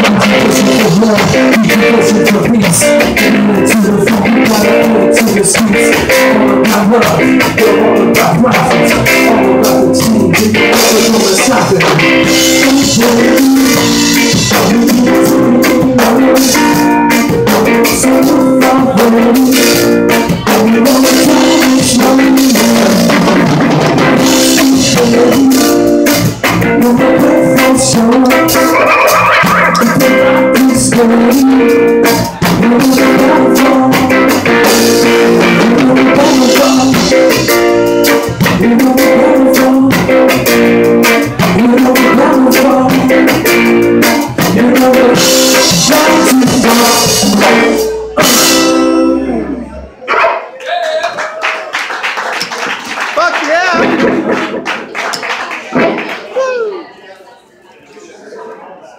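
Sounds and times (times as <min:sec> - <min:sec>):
drum kit: 0:00.0 - 0:49.2, 0:52.4 - 0:56.2
person singing: 0:00.0 - 0:49.8, 0:56.3 - 0:56.9
electric guitar: 0:00.0 - 0:49.9.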